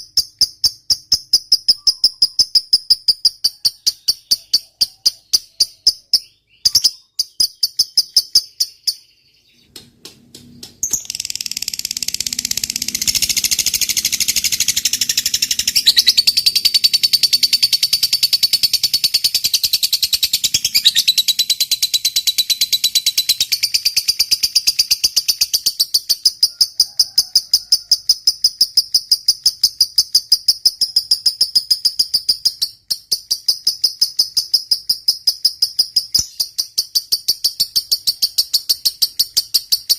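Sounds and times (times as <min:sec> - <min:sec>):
bird chattering trill: 0:00.0 - 0:09.7, 0:10.8 - 0:39.9
bird chirps: 0:00.0 - 0:27.2, 0:28.1 - 0:39.9.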